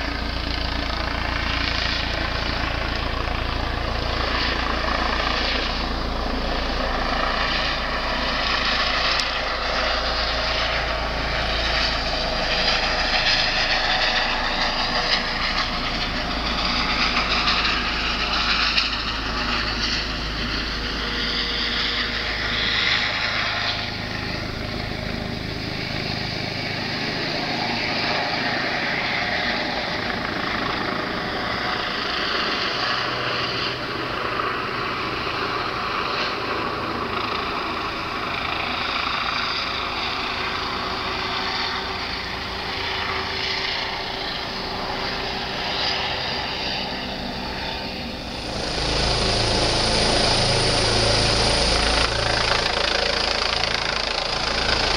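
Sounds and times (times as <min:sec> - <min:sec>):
helicopter rotor drone: 0:00.0 - 0:54.9.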